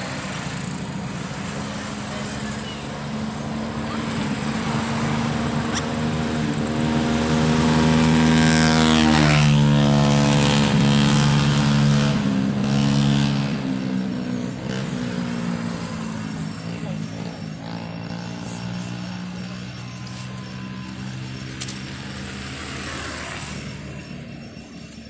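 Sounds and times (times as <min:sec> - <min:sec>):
vehicle engine passing by: 0:00.0 - 0:25.0.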